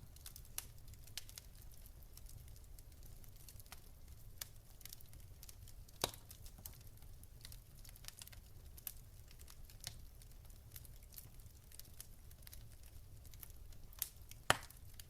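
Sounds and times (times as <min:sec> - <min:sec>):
fire crackling faintly: 0:00.0 - 0:15.0.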